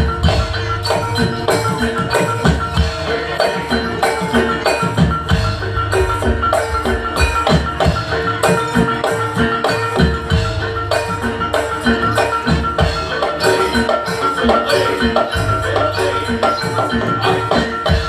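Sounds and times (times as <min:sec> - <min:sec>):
gamelan music with drums: 0:00.0 - 0:18.0.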